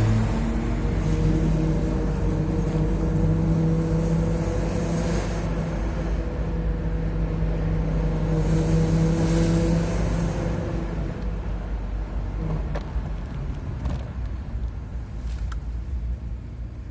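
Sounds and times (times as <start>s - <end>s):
road or engine rumble: 0.0s - 16.9s.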